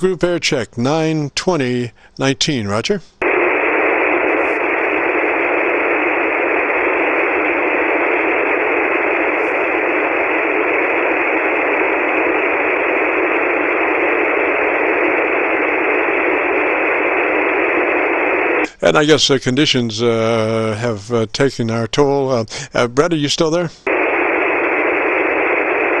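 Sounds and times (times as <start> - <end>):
thin radio static hiss: 0.1 - 26.0.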